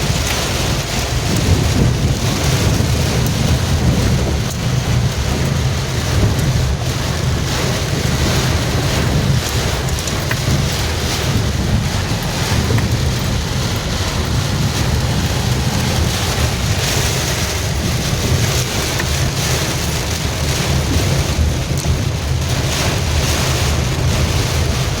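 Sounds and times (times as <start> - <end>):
heavy rain hissing: 0.0 - 25.0
vehicle rumble: 0.0 - 25.0.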